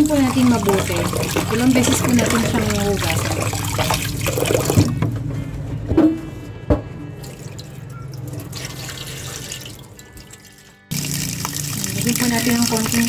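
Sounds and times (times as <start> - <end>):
water splashing in a metal pot: 0.0 - 5.1, 7.2 - 13.0.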